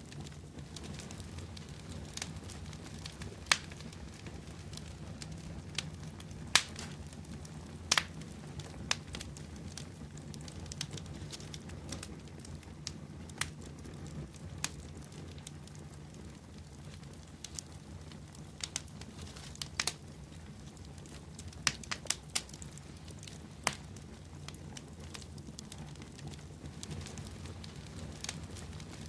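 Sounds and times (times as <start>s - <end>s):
bonfire crackling and popping: 0.0s - 29.0s
low fire rumble: 0.0s - 29.0s.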